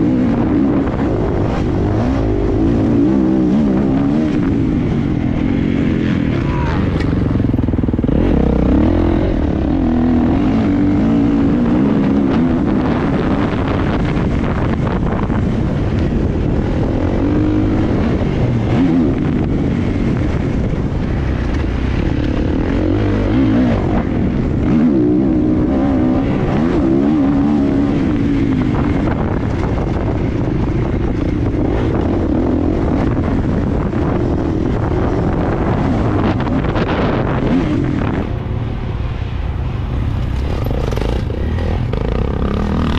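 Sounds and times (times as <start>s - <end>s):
motocross bike engine revving: 0.0s - 38.3s, 40.1s - 42.9s.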